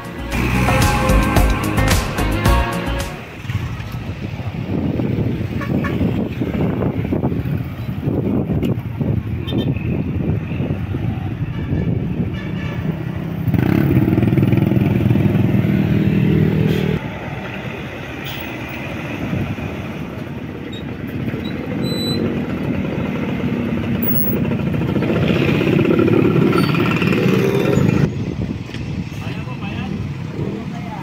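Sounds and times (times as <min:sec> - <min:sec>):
bus diesel engine passing: 0:00.0 - 0:31.0
road traffic: 0:00.0 - 0:31.0.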